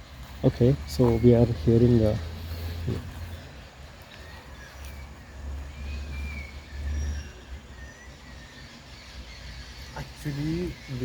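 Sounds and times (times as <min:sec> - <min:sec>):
birds whistling high notes: 0:01.0 - 0:11.0.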